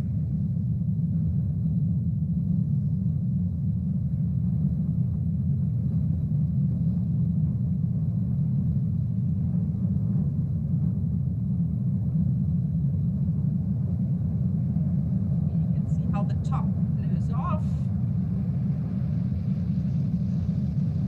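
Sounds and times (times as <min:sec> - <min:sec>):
deep steady rumble: 0:00.0 - 0:21.0.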